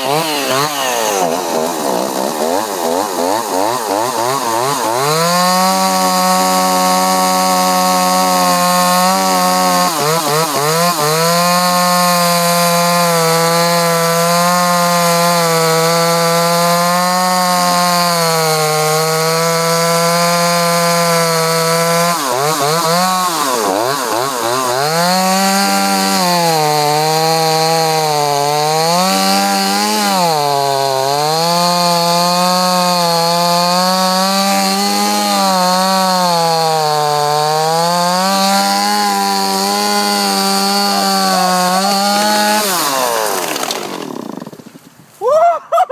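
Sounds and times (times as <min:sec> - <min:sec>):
chainsaw cutting tree limbs: 0:00.0 - 0:45.2.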